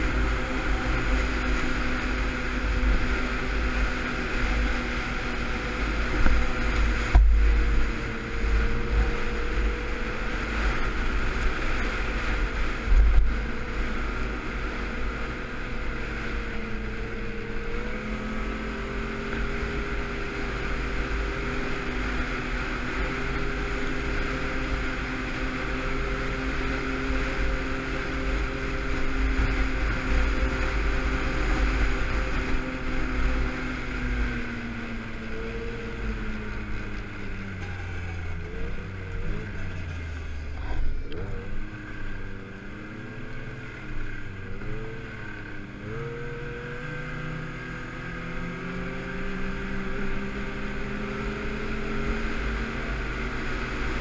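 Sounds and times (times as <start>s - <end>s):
snowmobile engine running: 0.0s - 54.0s
wind rumbling on microphone: 0.0s - 54.0s.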